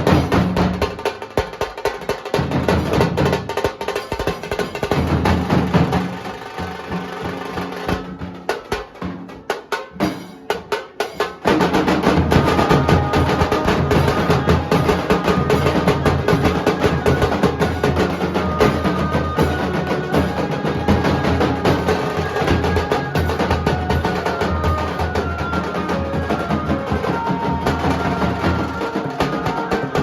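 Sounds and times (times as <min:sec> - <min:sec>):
drum ensemble playing fast rhythm: 0:00.0 - 0:30.0.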